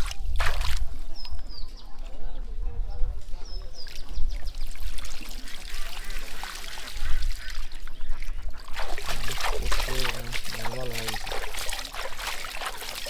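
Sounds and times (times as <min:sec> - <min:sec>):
water splashing and trickling: 0:00.0 - 0:01.6, 0:03.5 - 0:13.0.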